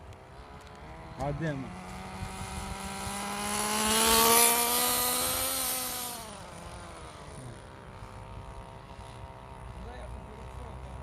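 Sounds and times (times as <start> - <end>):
small engine revving high: 0.3 - 11.0.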